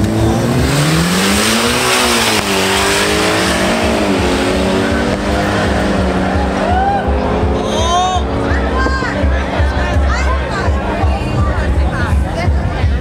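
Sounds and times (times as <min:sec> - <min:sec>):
car engines accelerating hard: 0:00.0 - 0:13.0.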